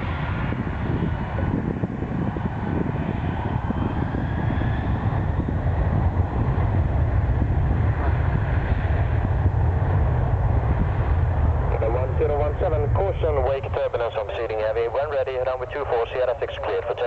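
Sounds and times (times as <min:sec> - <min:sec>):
faint high engine whine: 0:00.0 - 0:17.0
jet engines deep rumble: 0:00.0 - 0:17.0.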